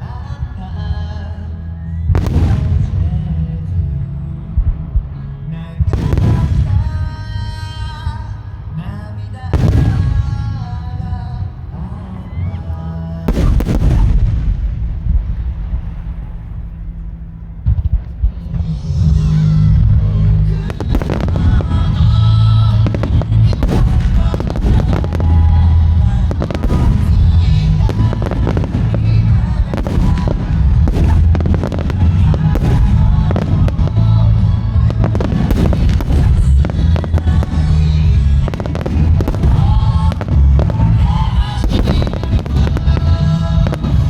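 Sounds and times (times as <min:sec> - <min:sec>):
fireworks bursting: 0:00.0 - 0:12.5, 0:13.2 - 0:44.0
pop song over loudspeakers: 0:00.0 - 0:14.8, 0:18.5 - 0:44.0.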